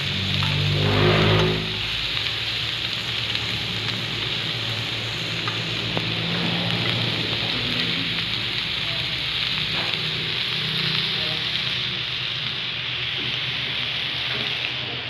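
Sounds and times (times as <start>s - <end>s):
meat sizzling on grill pan: 0.0s - 15.0s.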